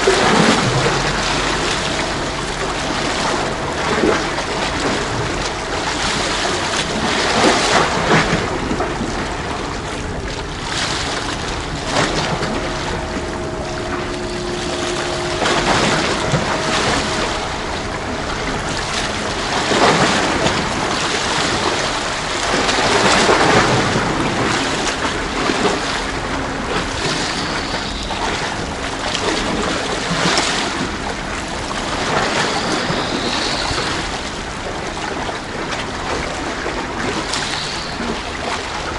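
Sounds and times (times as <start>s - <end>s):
faint steady hum: 0.0s - 38.9s
sea waves washing against breakwater: 0.0s - 38.9s
wind buffeting microphone: 0.0s - 38.9s.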